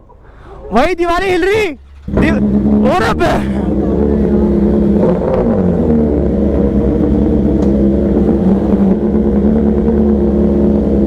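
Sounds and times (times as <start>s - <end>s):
motorcycle engine running at low revs: 1.9s - 11.0s.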